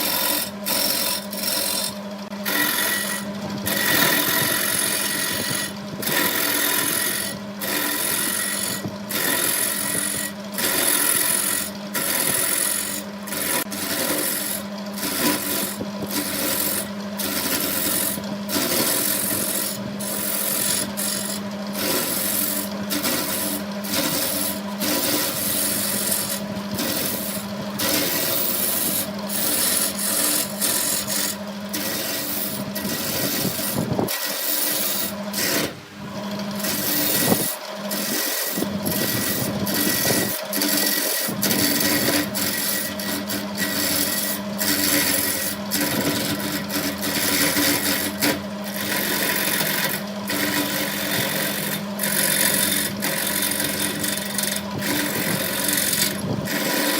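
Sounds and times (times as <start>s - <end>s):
lathe motor hum: 0.0s - 56.9s
tool scraping spinning wood: 0.0s - 56.9s.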